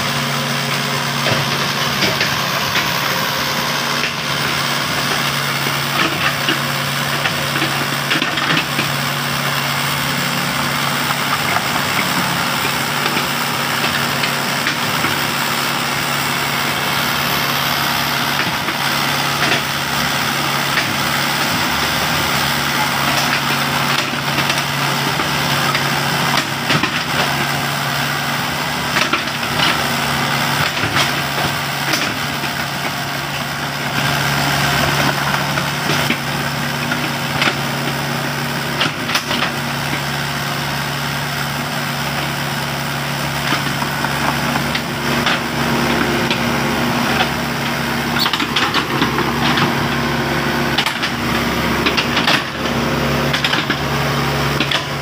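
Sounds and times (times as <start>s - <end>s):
clanks of bucket and steel tracks: 0.0s - 55.0s
excavator diesel engine running: 0.0s - 55.0s.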